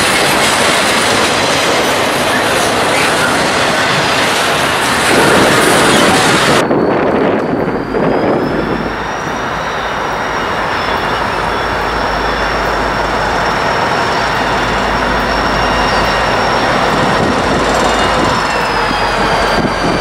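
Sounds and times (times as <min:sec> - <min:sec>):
diesel locomotive engine rumble: 0:00.0 - 0:20.0
freight train cars passing: 0:00.0 - 0:20.0
high-pitched squeal: 0:00.0 - 0:20.0.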